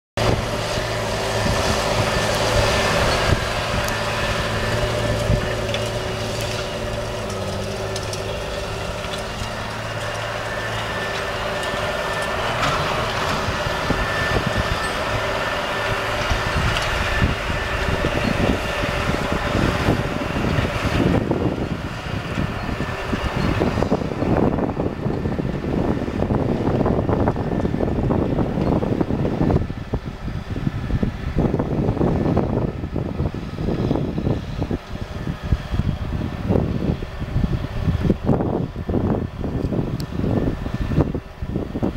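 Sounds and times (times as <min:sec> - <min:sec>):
tractor diesel engine running: 0:00.2 - 0:41.9
wind buffeting microphone: 0:00.2 - 0:41.9.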